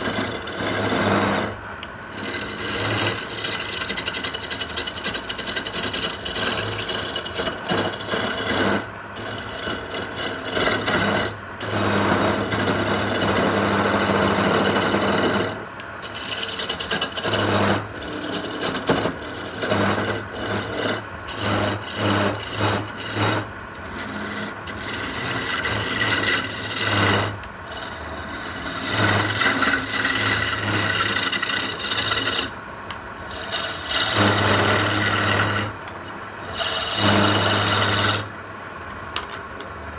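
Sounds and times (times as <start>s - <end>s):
rasping on wood: 0.0s - 32.6s, 33.2s - 38.3s.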